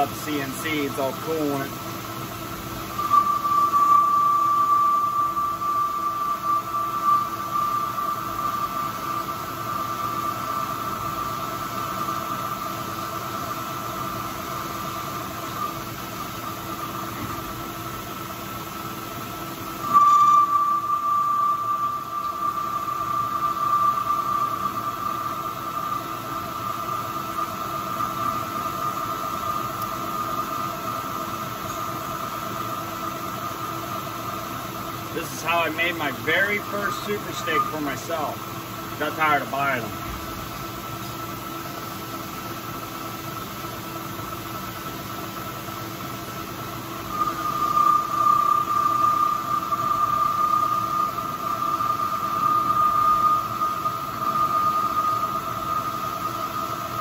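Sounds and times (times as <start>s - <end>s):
metal lathe cutting whine: 0.0s - 57.0s.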